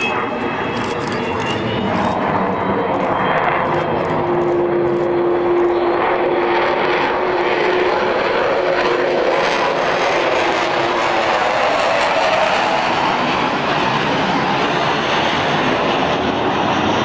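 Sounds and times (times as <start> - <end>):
jet aircraft engines roaring: 0.0 - 17.0.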